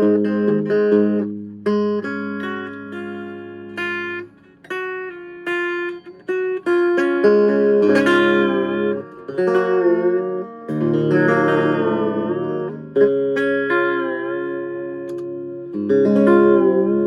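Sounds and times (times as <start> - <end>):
clean solo guitar: 0.0 - 17.0.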